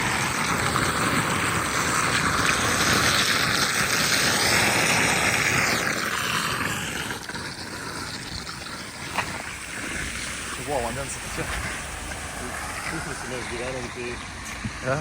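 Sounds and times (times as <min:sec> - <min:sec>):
floodwater rushing and splashing: 0:00.0 - 0:15.0.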